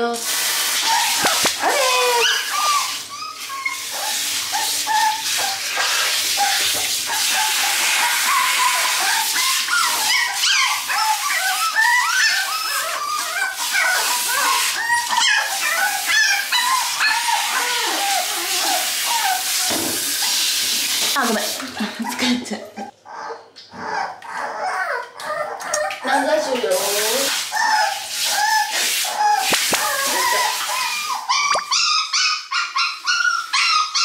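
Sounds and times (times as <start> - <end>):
shower head spraying water: 0.0 - 22.1, 26.4 - 31.7
puppy whimpering and yelping: 0.8 - 19.7, 22.0 - 26.3, 27.5 - 34.0.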